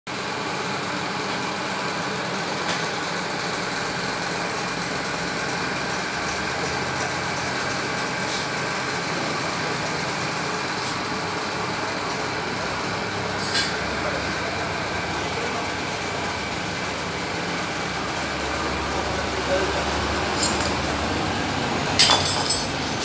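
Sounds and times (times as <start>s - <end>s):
small engine idling: 0.1s - 23.0s.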